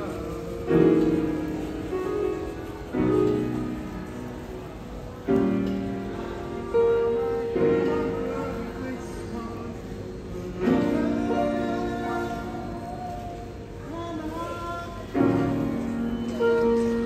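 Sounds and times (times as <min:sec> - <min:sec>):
sustained piano chords: 0:00.0 - 0:17.0.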